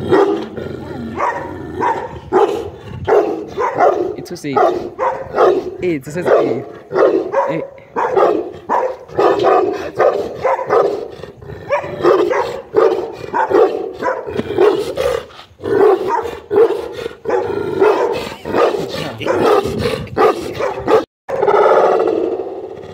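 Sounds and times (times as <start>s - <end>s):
dog barking: 0.0s - 11.1s, 11.7s - 15.2s, 15.8s - 21.6s.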